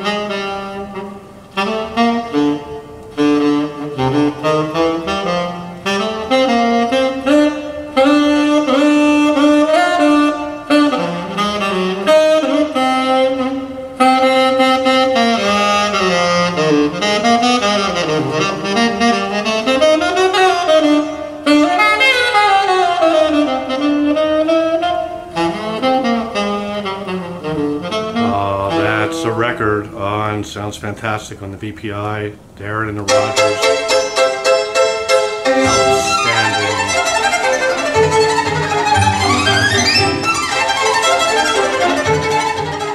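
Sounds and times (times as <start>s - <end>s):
solo wind instrument melody: 0.0s - 30.2s, 33.1s - 42.9s
jazz backing band: 0.0s - 31.0s, 32.1s - 42.9s.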